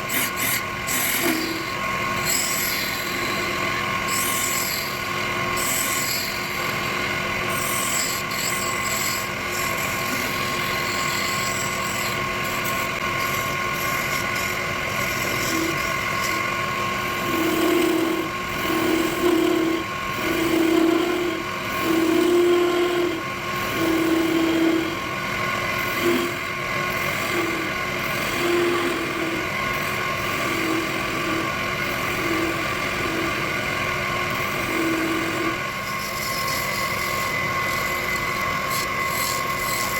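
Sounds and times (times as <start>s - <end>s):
lathe motor hum: 0.0s - 39.9s
tool cutting spinning wood: 0.0s - 39.9s.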